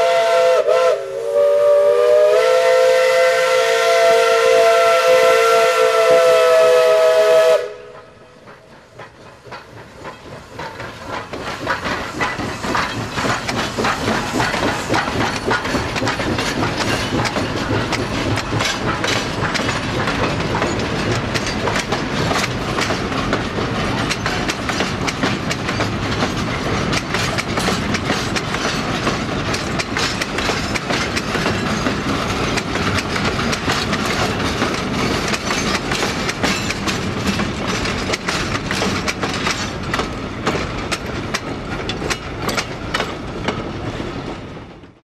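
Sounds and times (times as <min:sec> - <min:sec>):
train rumble: 0:00.0 - 0:45.0
train wheels clanking over rail joints: 0:07.5 - 0:45.0.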